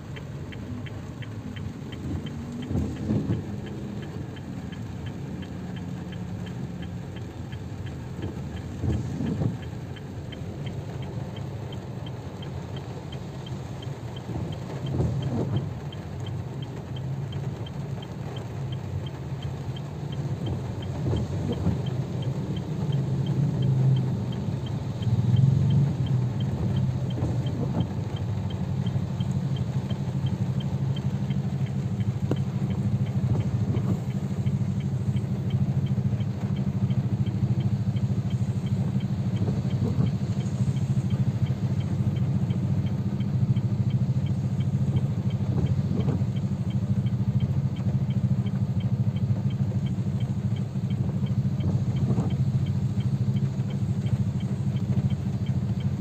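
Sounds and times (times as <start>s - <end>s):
car engine idling: 0.0s - 56.0s
heavy rain: 0.0s - 56.0s
light even ticking: 0.0s - 56.0s.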